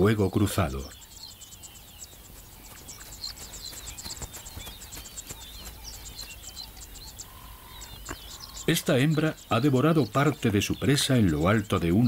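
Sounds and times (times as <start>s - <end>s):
small birds chirping: 0.0s - 12.0s
insect ticking: 0.8s - 12.0s.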